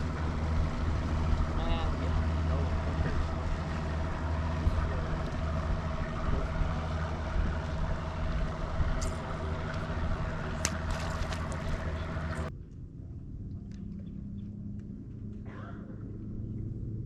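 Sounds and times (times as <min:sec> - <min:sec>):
boat motor running under water: 0:00.0 - 0:17.0
hull noise: 0:00.0 - 0:17.0
low rumble: 0:00.0 - 0:17.0.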